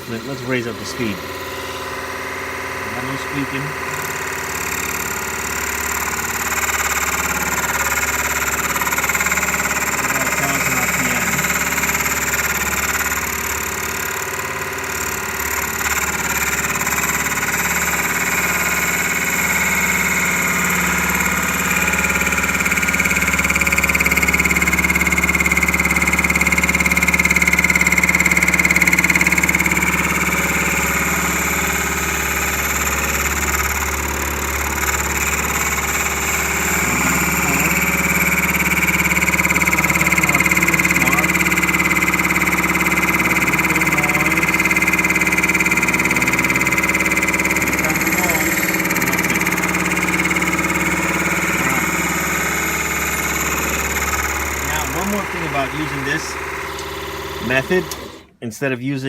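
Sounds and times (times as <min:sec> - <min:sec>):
high whine of turning tool: 0:00.0 - 0:58.3
wood lathe motor hum: 0:00.0 - 0:58.3.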